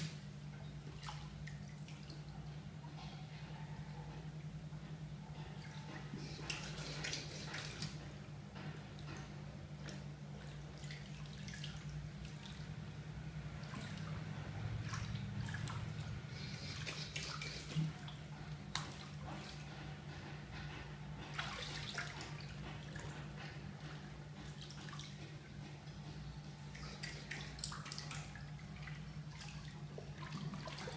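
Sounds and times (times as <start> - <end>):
bathwater sloshing and splashing: 0.0 - 2.7, 5.5 - 30.9.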